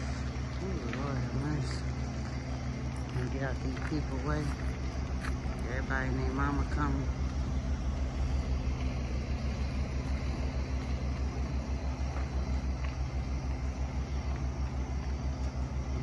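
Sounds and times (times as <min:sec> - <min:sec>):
large engine humming: 0:00.0 - 0:16.0.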